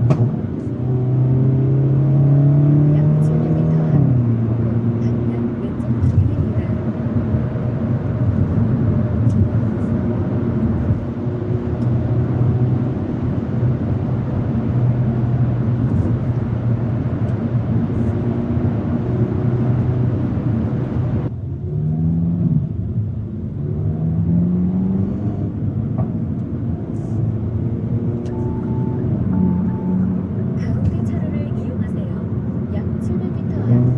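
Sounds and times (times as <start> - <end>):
car engine and exhaust driving: 0.0 - 33.9.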